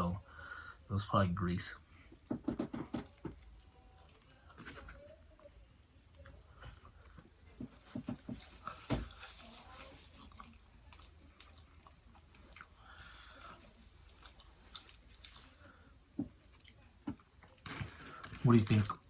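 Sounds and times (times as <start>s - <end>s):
person chewing food: 2.1s - 5.5s, 6.1s - 18.3s.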